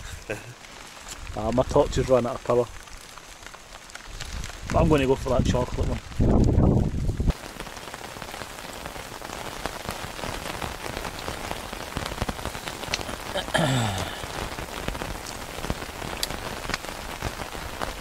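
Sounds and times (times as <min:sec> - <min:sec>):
rain drops ticking on tent: 0:00.0 - 0:18.0.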